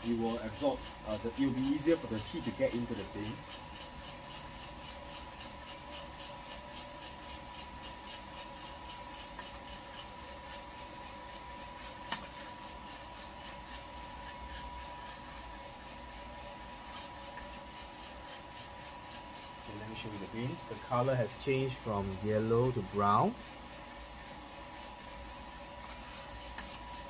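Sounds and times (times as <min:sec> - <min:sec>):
coffee beans tumbling in drum: 0:00.0 - 0:27.0
fan whine: 0:00.0 - 0:27.0.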